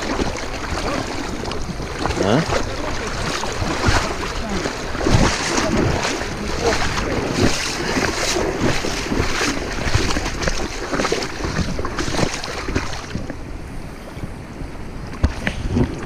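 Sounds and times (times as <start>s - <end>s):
river water rushing: 0.0s - 13.7s
wind buffeting microphone: 0.0s - 16.0s.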